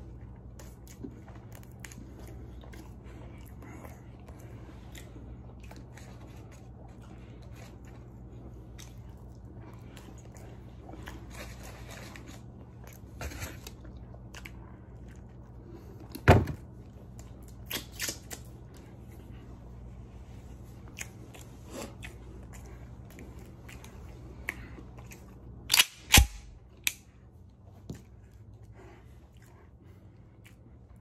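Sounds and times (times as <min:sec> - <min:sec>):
man chewing with mouth clicks: 0:00.0 - 0:25.8, 0:26.7 - 0:31.0
steady low hum: 0:00.0 - 0:31.0.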